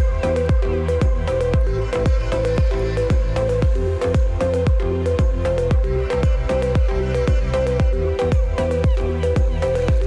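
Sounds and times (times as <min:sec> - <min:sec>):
deep kick drum beat: 0:00.0 - 0:10.0.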